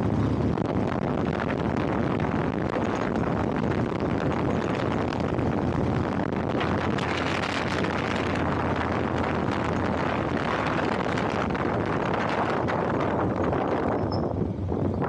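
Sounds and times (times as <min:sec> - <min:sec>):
vehicle engine and road rumble: 0:00.0 - 0:15.0
wind rushing over microphone: 0:00.0 - 0:15.0.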